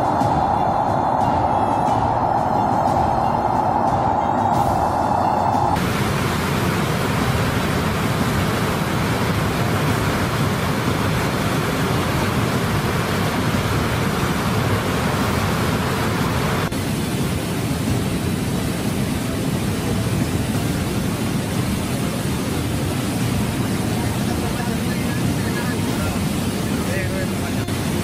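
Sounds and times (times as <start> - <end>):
floodwater rushing over spillway: 0.0 - 28.0.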